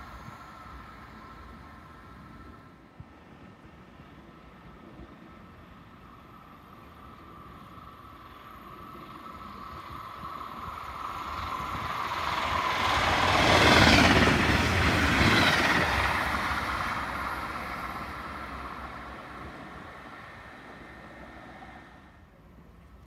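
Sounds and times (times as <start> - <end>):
train passing by: 0.0 - 23.0.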